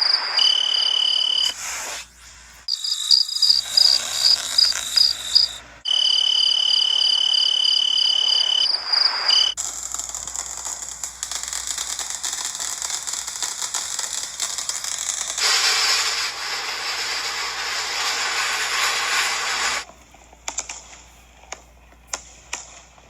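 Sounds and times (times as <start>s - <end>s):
firework jet hissing and crackling: 0.0s - 5.8s, 9.1s - 23.0s.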